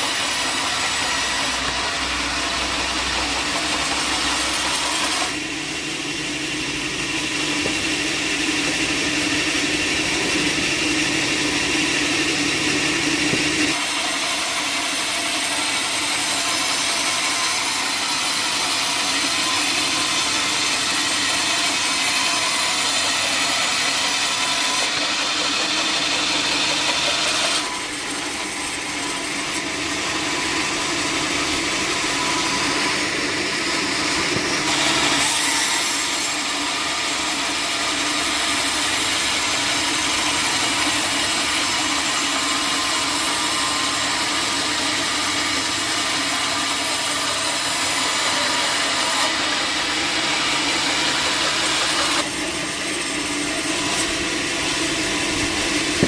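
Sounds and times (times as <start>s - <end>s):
saw cutting through wood: 0.0s - 56.0s.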